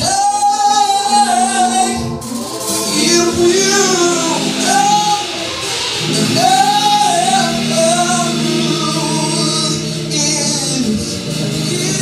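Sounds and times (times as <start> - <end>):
band holding chords: 0.0 - 12.0
cymbals shimmering: 0.0 - 12.0.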